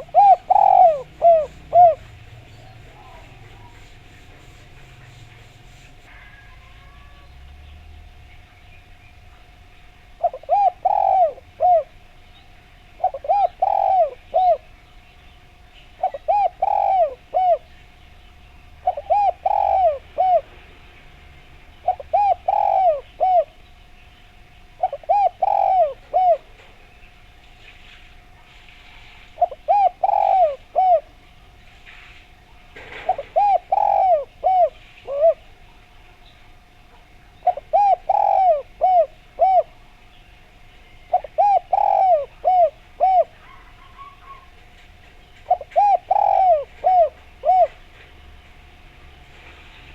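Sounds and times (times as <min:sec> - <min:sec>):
dove cooing: 0:00.0 - 0:07.4, 0:10.1 - 0:14.8, 0:15.5 - 0:20.8, 0:21.7 - 0:23.6, 0:24.4 - 0:26.9, 0:28.2 - 0:31.6, 0:32.2 - 0:35.7, 0:36.5 - 0:40.0, 0:40.6 - 0:49.9.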